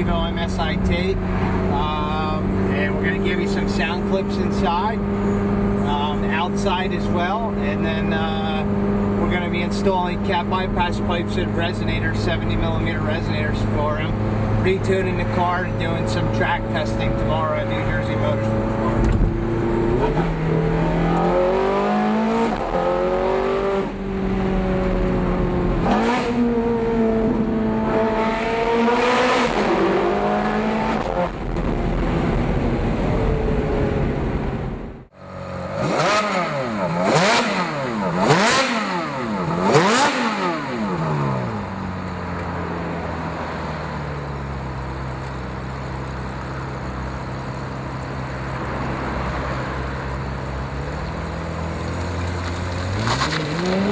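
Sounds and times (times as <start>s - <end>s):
sports car engine revving: 0.0s - 53.9s.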